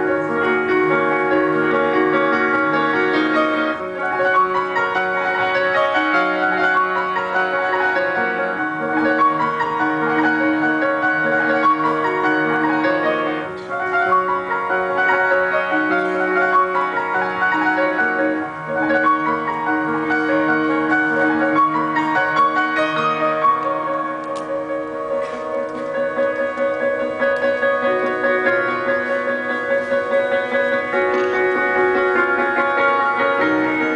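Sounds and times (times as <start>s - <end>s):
grand piano chords: 0.0s - 33.9s.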